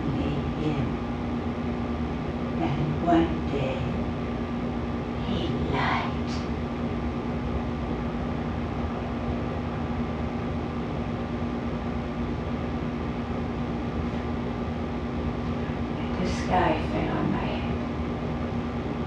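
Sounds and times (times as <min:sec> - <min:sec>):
background hum and hiss: 0:00.0 - 0:19.0.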